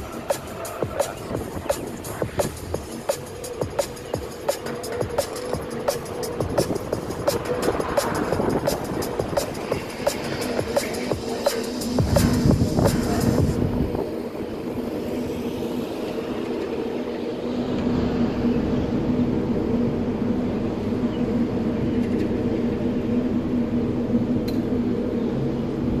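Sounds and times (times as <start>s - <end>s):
steady low hum: 0.0s - 26.0s
street traffic rumble: 0.0s - 26.0s.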